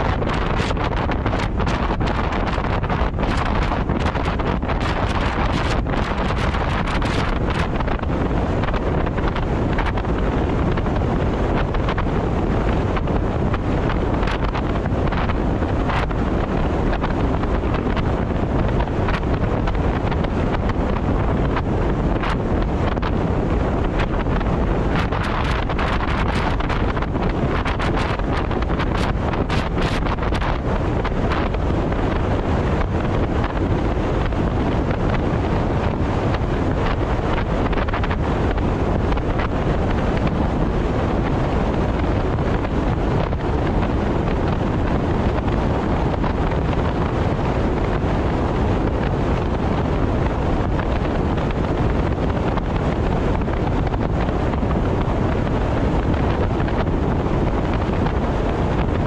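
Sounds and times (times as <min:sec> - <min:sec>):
car road and tyre noise: 0:00.0 - 0:59.0
wind buffeting microphone: 0:00.0 - 0:59.0.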